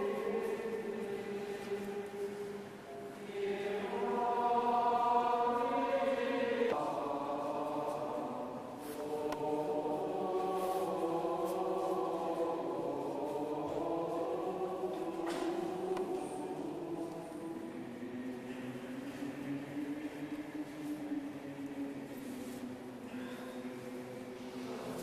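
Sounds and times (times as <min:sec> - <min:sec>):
choir singing a chant-like hymn: 0:00.0 - 0:25.0.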